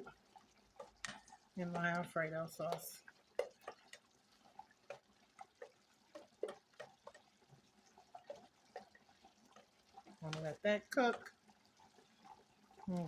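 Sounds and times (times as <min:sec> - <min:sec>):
sauce simmering in a pan: 0:00.0 - 0:13.0.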